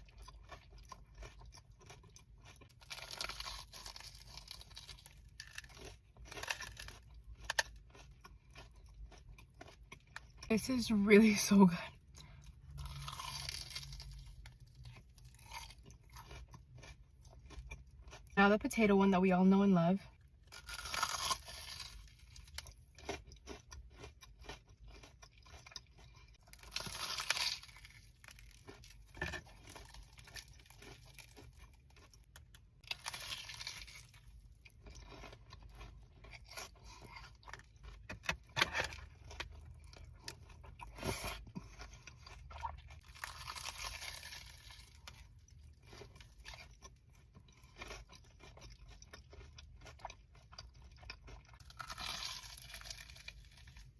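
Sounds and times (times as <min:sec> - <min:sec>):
crunchy bites and chewing: 0:00.0 - 0:18.4, 0:20.1 - 0:53.9.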